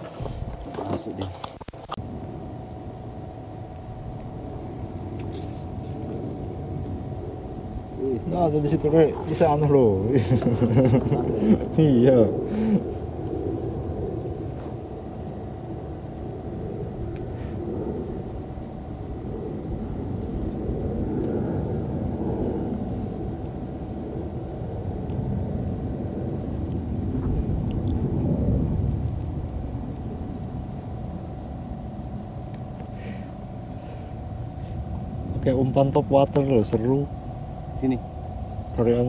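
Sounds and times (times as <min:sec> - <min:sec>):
insects buzzing: 0:00.0 - 0:39.0.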